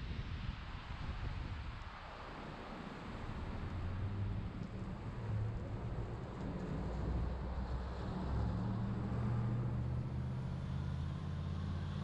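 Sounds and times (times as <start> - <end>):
engine and road rumble: 0.9 - 12.0.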